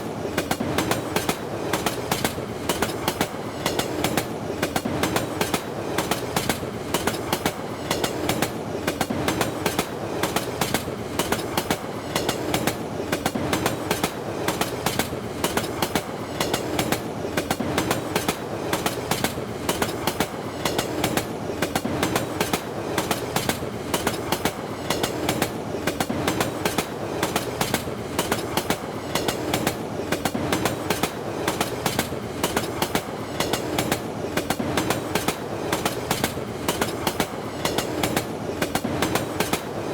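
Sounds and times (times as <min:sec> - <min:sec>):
train rumbling: 0:00.0 - 0:39.9
train wheels clattering over rail joints: 0:00.0 - 0:39.9.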